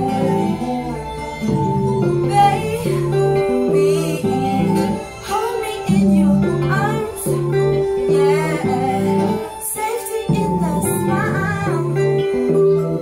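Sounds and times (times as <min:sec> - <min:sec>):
acoustic guitar: 0:00.0 - 0:13.0
electric guitar: 0:00.0 - 0:13.0.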